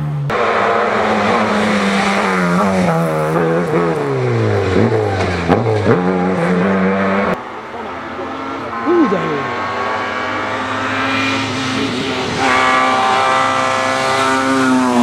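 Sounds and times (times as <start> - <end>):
car engine revving under load: 0.0 - 15.0.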